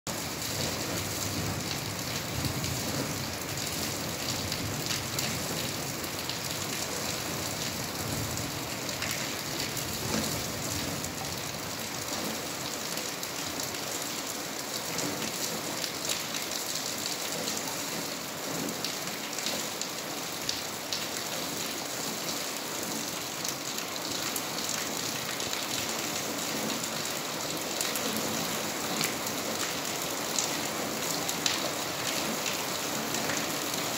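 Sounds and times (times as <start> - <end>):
steady rain hiss: 0.2 - 33.9.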